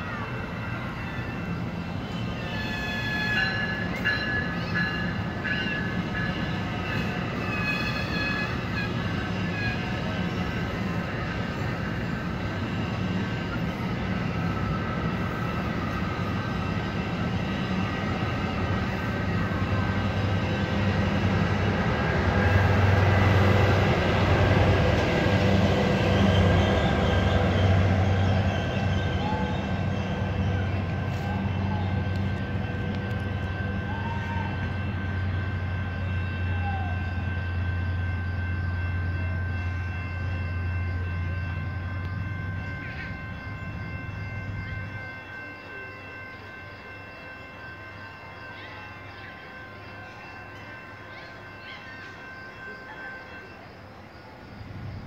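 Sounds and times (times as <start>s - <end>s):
high wheel squeal: 0.0s - 45.0s
diesel locomotive engine drone: 0.0s - 55.0s
train coaches rolling on rails: 0.0s - 55.0s.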